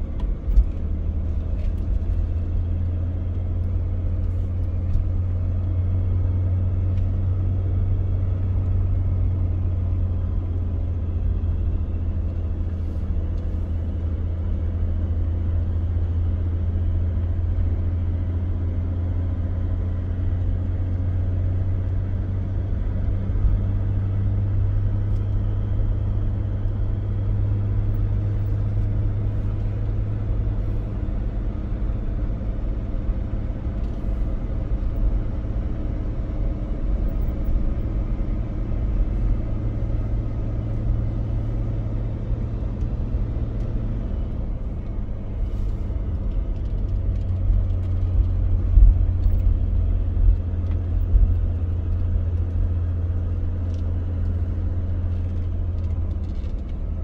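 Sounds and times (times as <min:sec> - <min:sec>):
low rumble: 0:00.0 - 0:57.0.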